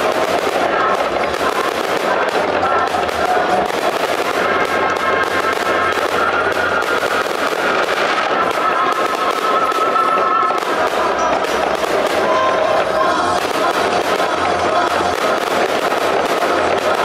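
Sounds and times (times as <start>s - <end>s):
fireworks crackling and popping: 0.0s - 17.0s
steady high tone: 2.0s - 17.0s.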